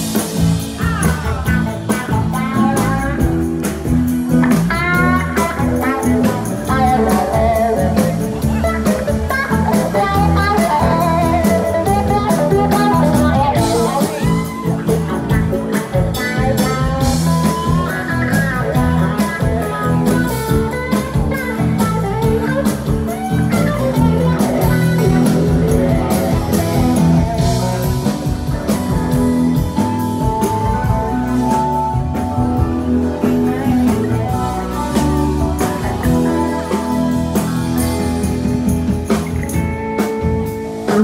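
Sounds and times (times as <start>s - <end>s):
bass guitar: 0.0s - 41.0s
drums: 0.0s - 41.0s
electric guitar: 0.0s - 41.0s
keyboards: 0.0s - 41.0s.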